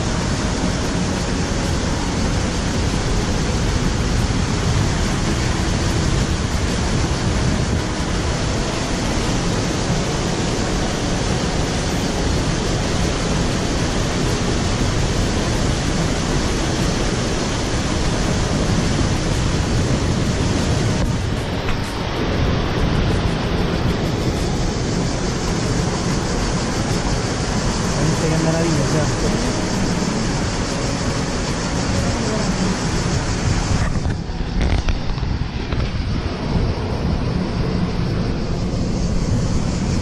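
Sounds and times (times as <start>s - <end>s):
water cascading over rocks: 0.0s - 36.9s.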